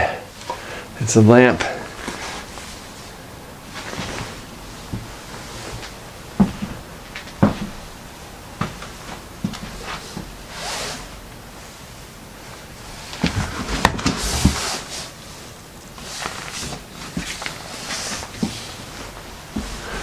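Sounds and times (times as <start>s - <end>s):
rustling clothes: 0.0s - 20.0s.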